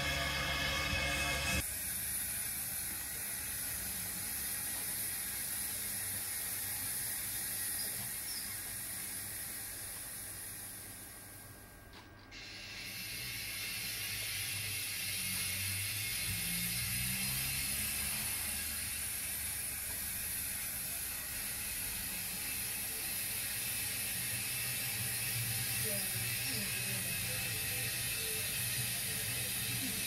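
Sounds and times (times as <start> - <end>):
model train whirring and clicking: 0.0 - 30.0
steady high hiss: 0.0 - 30.0.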